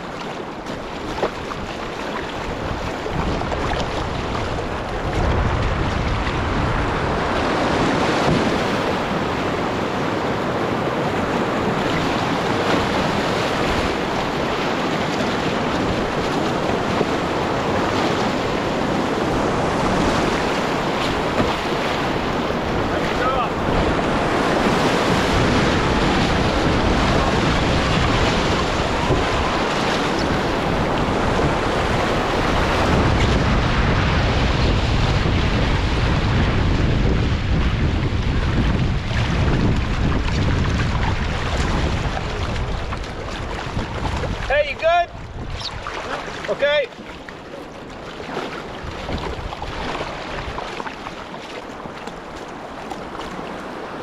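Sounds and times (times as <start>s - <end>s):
river water rushing and splashing: 0.0s - 54.0s
wind noise on microphone: 0.0s - 54.0s.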